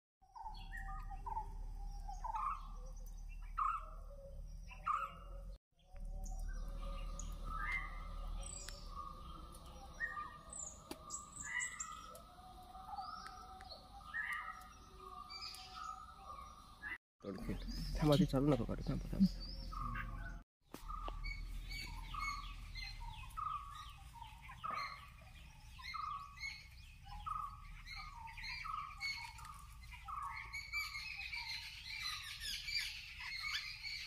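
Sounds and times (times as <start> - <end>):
birds chirping: 0.2 - 34.0.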